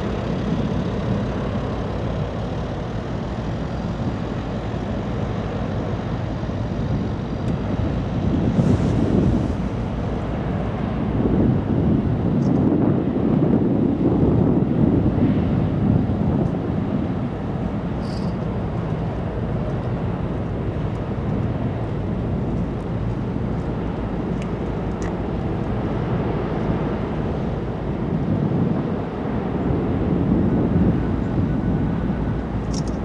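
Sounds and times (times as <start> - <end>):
wind on microphone: 5.7 - 33.0.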